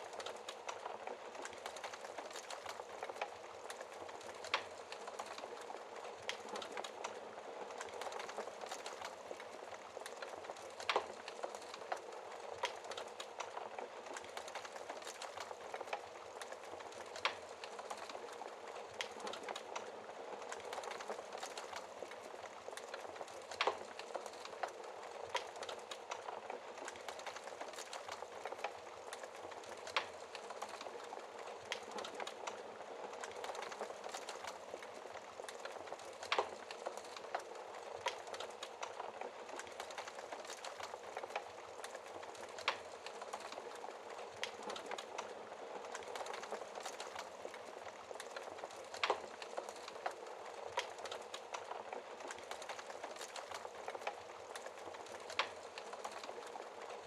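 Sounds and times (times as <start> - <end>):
fire crackling in fireplace: 0.0 - 57.0.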